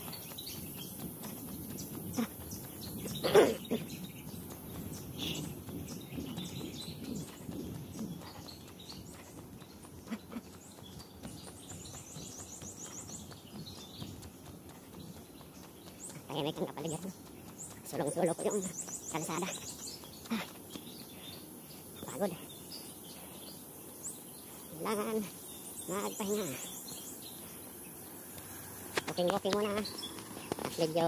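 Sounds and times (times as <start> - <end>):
bird chirping: 0.0 - 31.0
running footsteps: 0.0 - 31.0.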